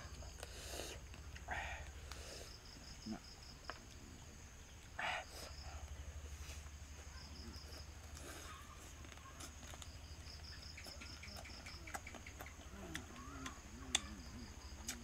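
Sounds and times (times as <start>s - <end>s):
crickets chirping: 0.0s - 15.0s
eating sounds: 0.0s - 15.0s.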